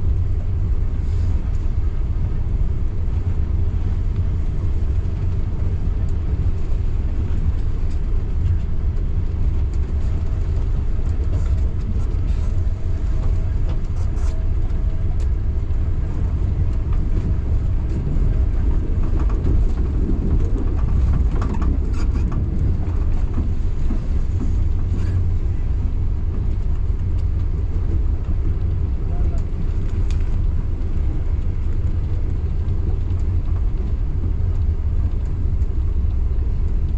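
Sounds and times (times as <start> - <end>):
passenger train rumbling on track: 0.0 - 36.9.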